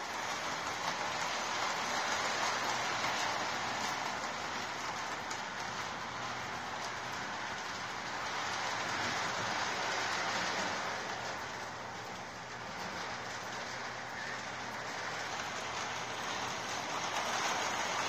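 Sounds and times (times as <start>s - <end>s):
faint motor hum: 0.0s - 18.0s
model train wheels rolling: 0.0s - 18.0s.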